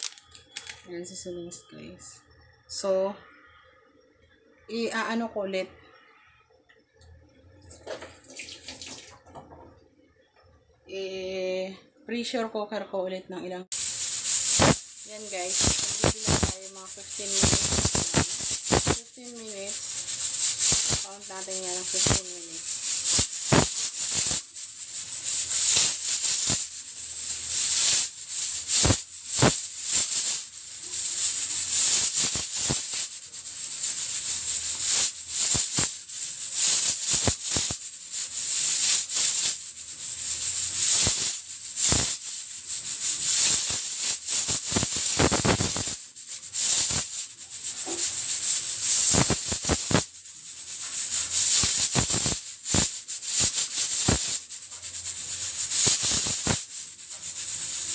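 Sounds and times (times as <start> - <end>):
pressure cooker valve rattling and hissing: 0.0 - 0.9, 7.6 - 9.8, 13.7 - 57.9.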